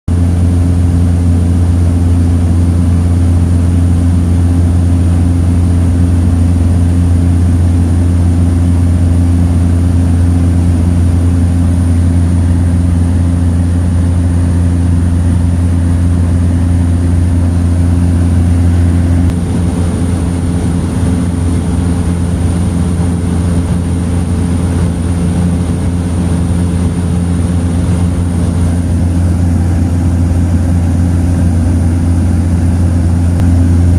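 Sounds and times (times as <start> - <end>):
propeller plane engine droning: 0.1 - 33.9.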